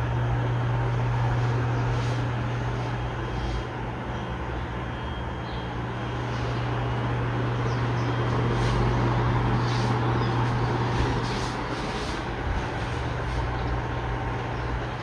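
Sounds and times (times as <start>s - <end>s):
air rushing from fan blades: 0.0s - 4.0s, 5.8s - 15.0s
ceiling fan motor hum: 0.0s - 15.0s.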